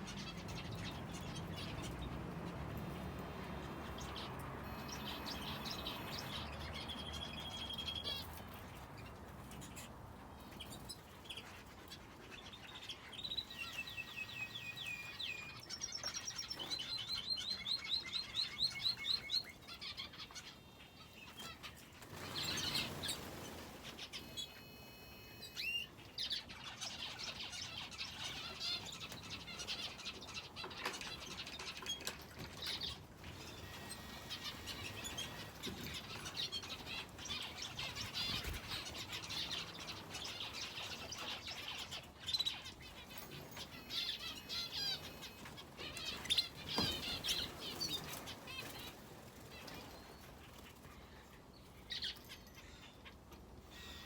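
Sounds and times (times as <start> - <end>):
cage birds chirping and singing: 0.0 - 54.0.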